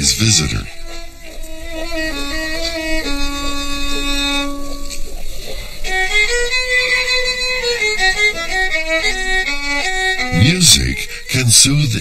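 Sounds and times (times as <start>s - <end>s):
solo violin melody: 0.0s - 12.0s.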